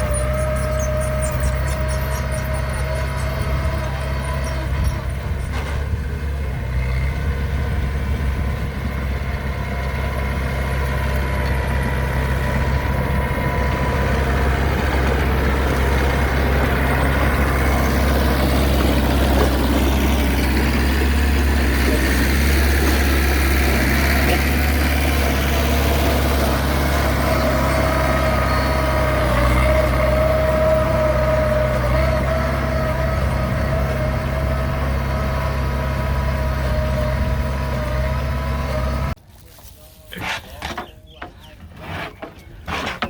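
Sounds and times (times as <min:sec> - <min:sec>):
heavy machine engine idling: 0:00.0 - 0:39.2.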